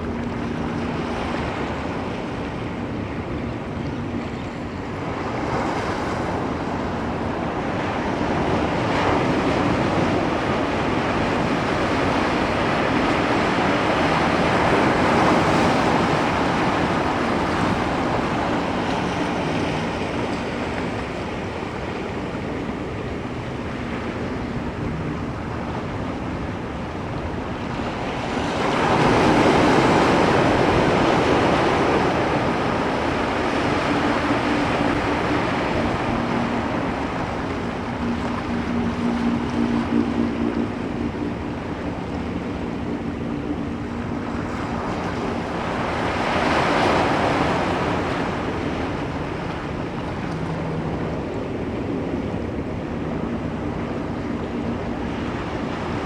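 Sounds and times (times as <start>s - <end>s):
ocean waves: 0.0s - 56.0s.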